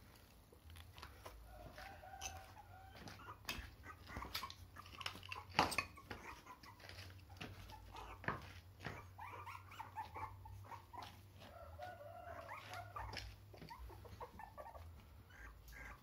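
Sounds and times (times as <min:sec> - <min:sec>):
puppies whimpering and squeaking: 0:01.0 - 0:16.0.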